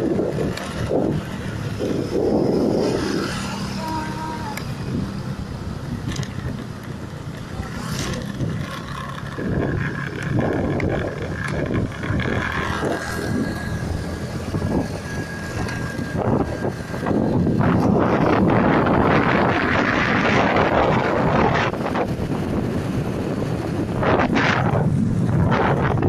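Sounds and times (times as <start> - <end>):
vehicle engine humming: 0.0 - 26.0
wind buffeting microphone: 0.0 - 26.0.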